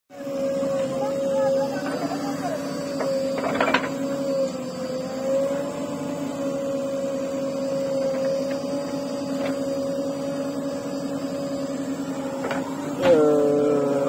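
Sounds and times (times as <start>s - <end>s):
backhoe engine drone: 0.1s - 14.0s.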